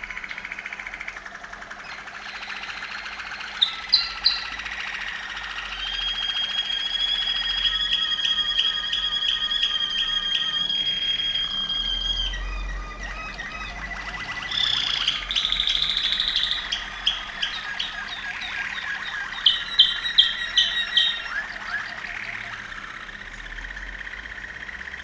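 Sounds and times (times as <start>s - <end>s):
canary singing: 0.0s - 25.0s.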